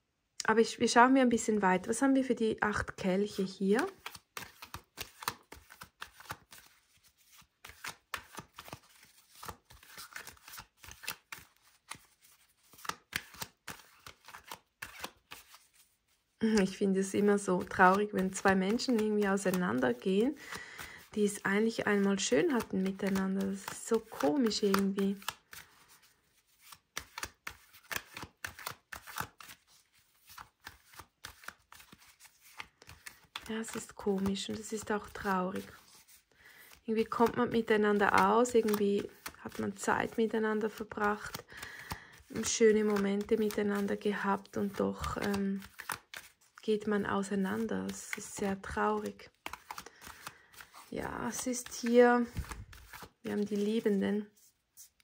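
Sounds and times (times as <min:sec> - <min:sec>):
cards being shuffled: 0:03.4 - 0:55.0.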